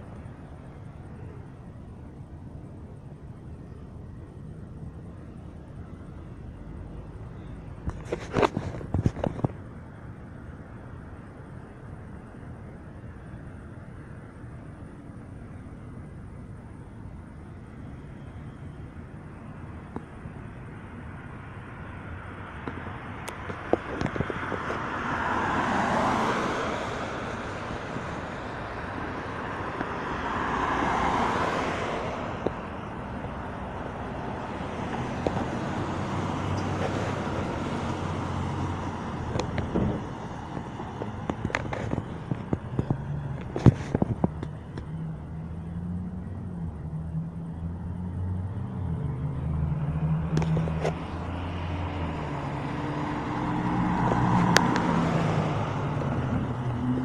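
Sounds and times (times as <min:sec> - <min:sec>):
cars passing by: 0:00.0 - 0:57.0
vehicle engine rumbling: 0:00.0 - 0:57.0.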